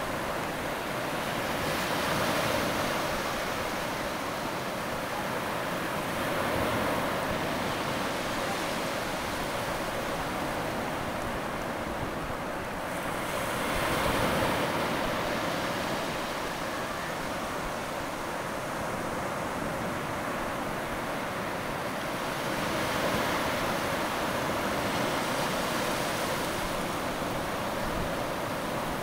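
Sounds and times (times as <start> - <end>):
surf washing over sand: 0.0 - 29.0.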